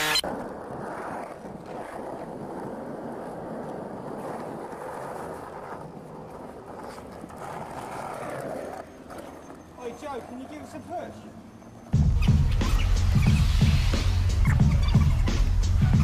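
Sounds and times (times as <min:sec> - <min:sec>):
skateboard rolling on concrete: 0:00.0 - 0:16.0.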